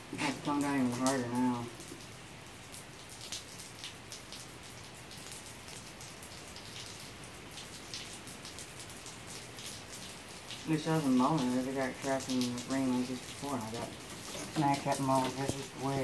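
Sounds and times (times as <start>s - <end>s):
heavy rain on pavement: 0.0s - 16.0s
raindrops clicking: 0.0s - 16.0s.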